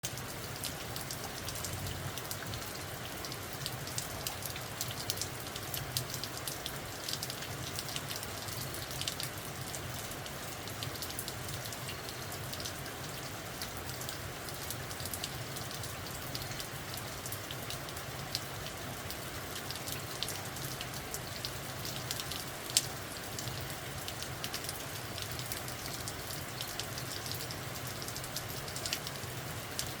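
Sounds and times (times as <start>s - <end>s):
raindrops ticking on a surface: 0.0s - 30.0s
steady rain falling: 0.0s - 30.0s.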